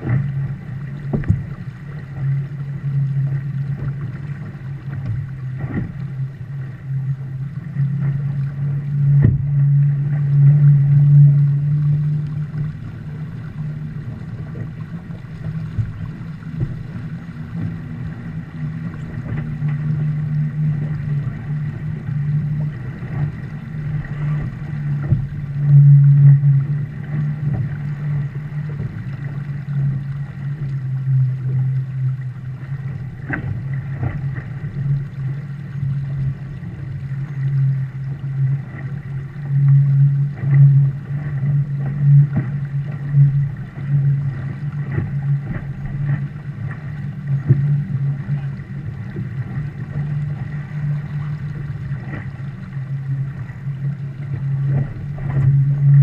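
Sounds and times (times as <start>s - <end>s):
water rushing along boat hull: 0.0s - 56.0s
wind: 0.0s - 56.0s.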